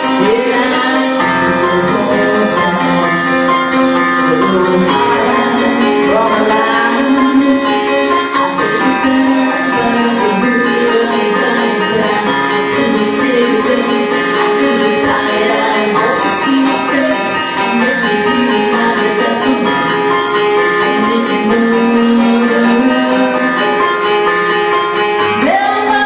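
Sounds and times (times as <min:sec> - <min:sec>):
women singing in harmony: 0:00.0 - 0:03.6, 0:04.3 - 0:20.1, 0:20.8 - 0:23.8, 0:25.3 - 0:26.0
keyboard accompaniment: 0:00.0 - 0:26.0.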